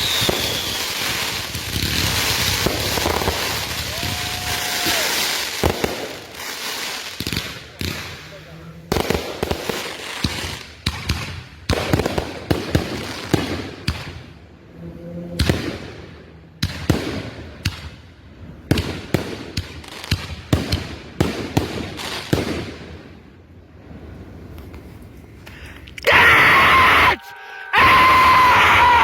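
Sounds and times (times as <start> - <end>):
fireworks bangs and crackling: 0.0 - 14.5, 15.3 - 25.1.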